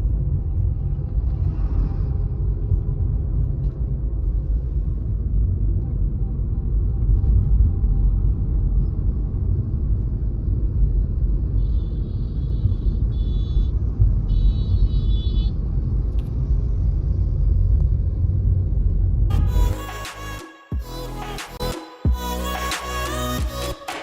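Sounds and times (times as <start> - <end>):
road and engine rumble: 0.0 - 23.9.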